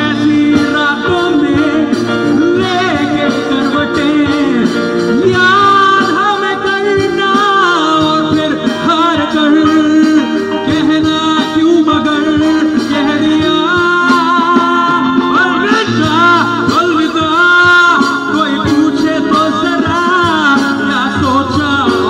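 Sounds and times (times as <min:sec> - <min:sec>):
electric guitar: 0:00.0 - 0:22.0
keyboard: 0:00.0 - 0:22.0
man singing wordless melody: 0:00.0 - 0:22.0.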